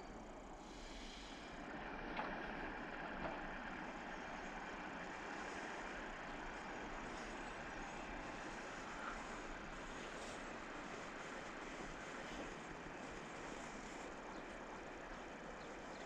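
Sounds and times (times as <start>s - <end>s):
distant train rumbling on rails: 0.0s - 16.0s.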